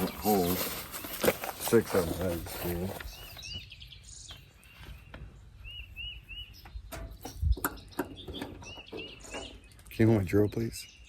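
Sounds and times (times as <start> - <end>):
low rumble of wind: 0.0 - 11.0
small bird chirping: 0.0 - 11.0.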